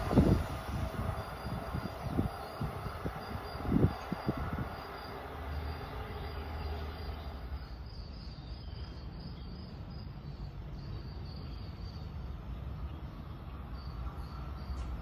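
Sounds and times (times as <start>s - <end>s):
insects trilling: 0.0s - 12.3s, 13.3s - 15.0s.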